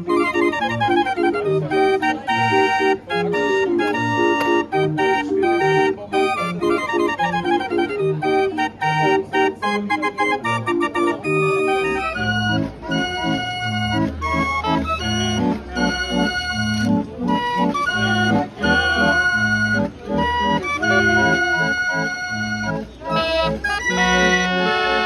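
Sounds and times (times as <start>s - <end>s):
barrel organ playing: 0.0s - 25.0s.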